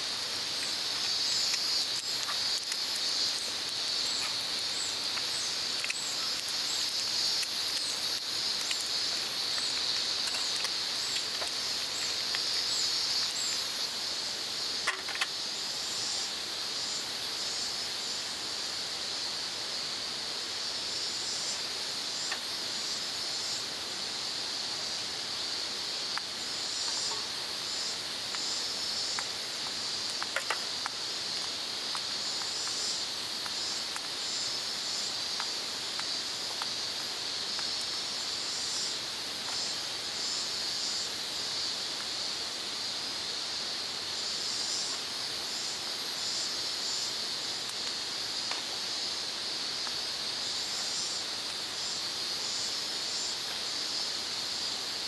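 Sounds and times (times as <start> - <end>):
insects buzzing: 0.0 - 55.0
rapidly pulsing insect chirps: 0.0 - 55.0.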